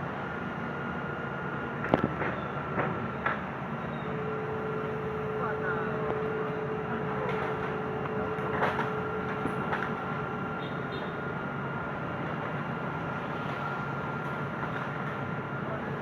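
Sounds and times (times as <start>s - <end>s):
diesel engine running with whine: 0.0s - 16.0s.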